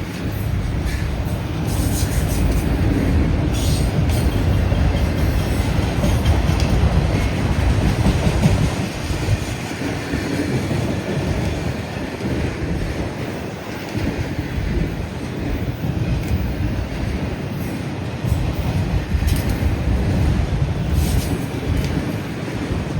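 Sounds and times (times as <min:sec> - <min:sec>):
freight train rumbling past: 0:00.0 - 0:22.9.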